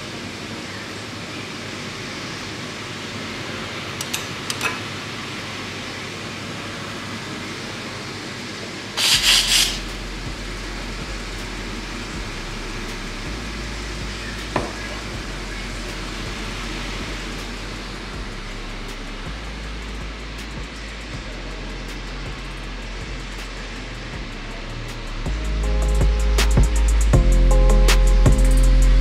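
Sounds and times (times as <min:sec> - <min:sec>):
steam wand hiss: 0:00.0 - 0:27.4
steady background hiss: 0:00.0 - 0:29.0.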